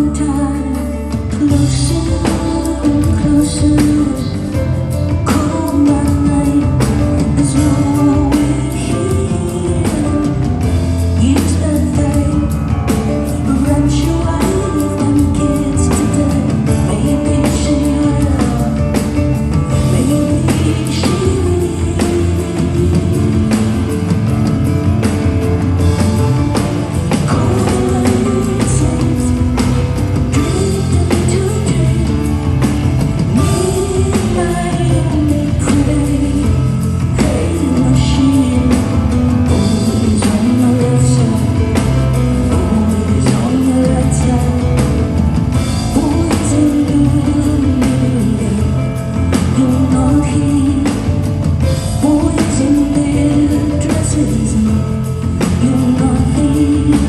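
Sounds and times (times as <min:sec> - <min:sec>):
live rock band: 0:00.0 - 0:57.0
woman singing: 0:00.0 - 0:57.0.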